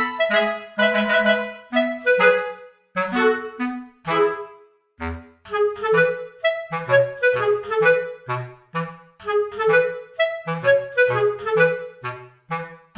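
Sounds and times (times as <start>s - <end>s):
bouncy tune over bass line: 0.0s - 12.9s.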